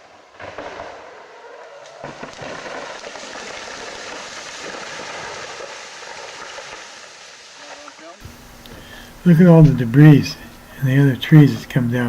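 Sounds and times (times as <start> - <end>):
tree crashing through canopy: 0.0 - 12.0.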